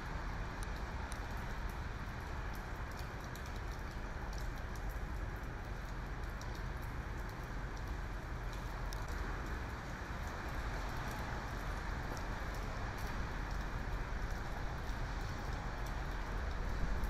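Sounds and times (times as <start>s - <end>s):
rain on wet pavement: 0.0s - 17.0s.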